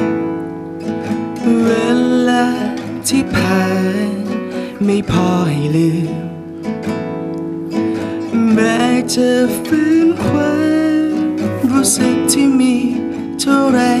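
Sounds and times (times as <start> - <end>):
fingerstyle classical guitar: 0.0 - 14.0
man singing: 1.3 - 6.6, 7.9 - 14.0.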